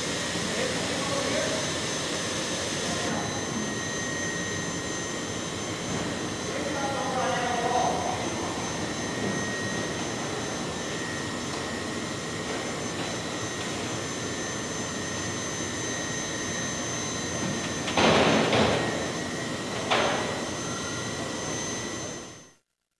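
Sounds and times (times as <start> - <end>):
loud bursts of machine noise: 0.0 - 22.4
industrial machinery running: 0.0 - 22.5
thin high whine: 0.0 - 22.7.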